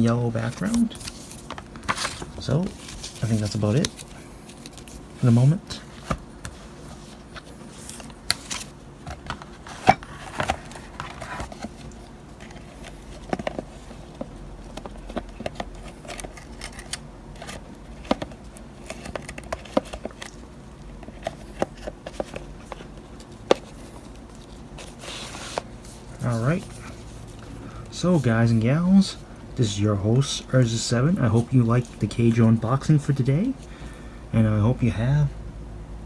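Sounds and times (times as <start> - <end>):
items being handled: 0.0 - 29.2
faint steady hum: 0.0 - 36.0.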